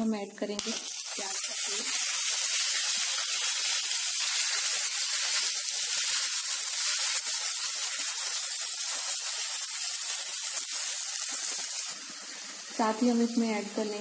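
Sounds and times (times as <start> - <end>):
onion paste sizzling in oil: 0.0 - 14.0.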